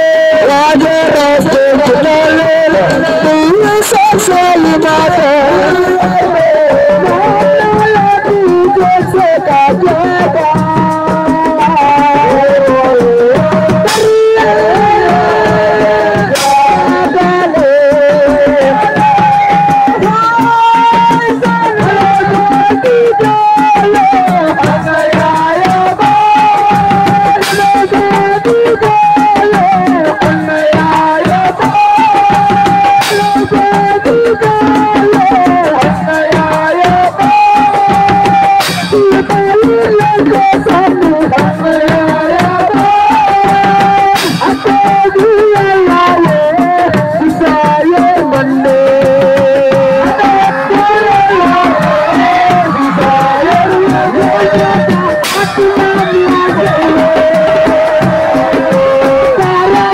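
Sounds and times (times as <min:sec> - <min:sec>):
hand-drum percussion: 0:00.0 - 0:59.9
person singing: 0:00.0 - 0:59.9.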